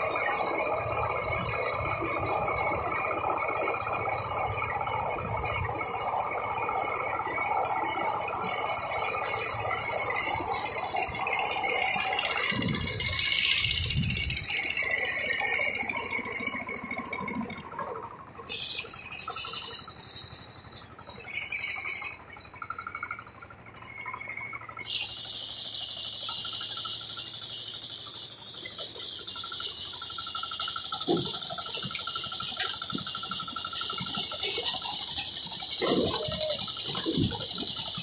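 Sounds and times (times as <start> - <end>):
hand tractor engine rattling: 0.0 - 38.0.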